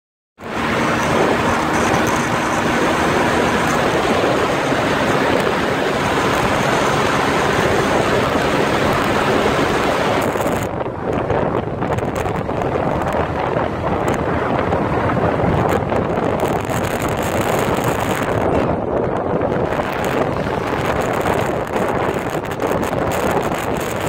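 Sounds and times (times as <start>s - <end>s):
faint motorcycle engine drone: 0.4s - 24.0s
wind rushing over microphone: 0.4s - 24.0s.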